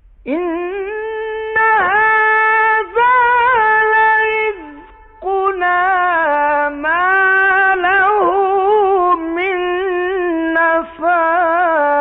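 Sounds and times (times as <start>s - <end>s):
man reciting melodically: 0.2s - 12.0s.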